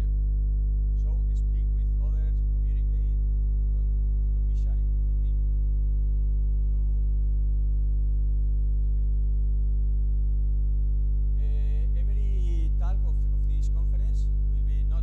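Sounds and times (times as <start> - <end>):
loud electrical mains hum: 0.0 - 15.0.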